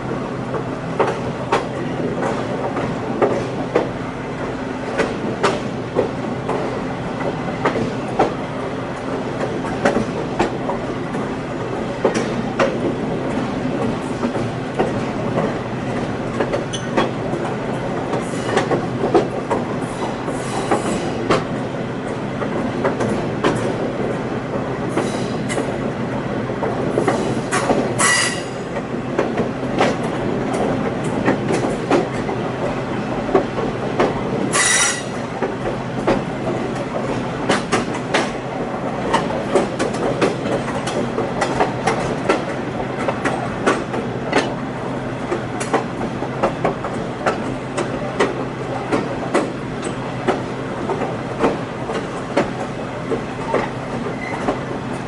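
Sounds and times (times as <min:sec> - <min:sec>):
train car rumbling: 0:00.0 - 0:55.0
wheels clicking over rail joints: 0:09.0 - 0:25.9, 0:26.6 - 0:44.6, 0:45.2 - 0:55.0.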